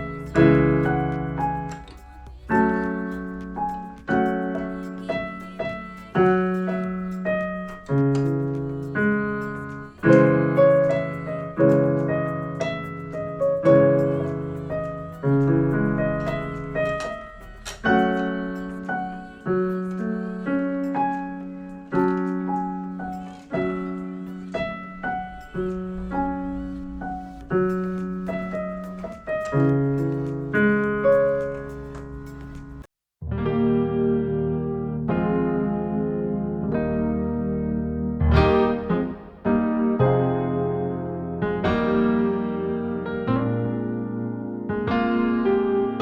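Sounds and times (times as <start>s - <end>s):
electronic keyboard playing chords: 0.0s - 46.0s.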